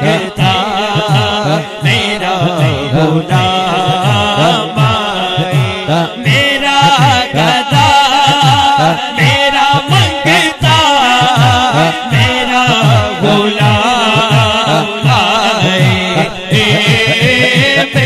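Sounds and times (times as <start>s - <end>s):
man singing over loudspeaker: 0.0s - 18.0s.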